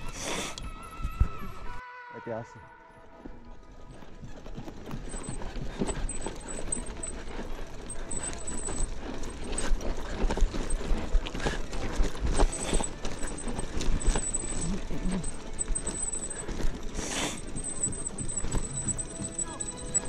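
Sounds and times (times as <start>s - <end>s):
bike clattering over stones: 3.9s - 20.0s.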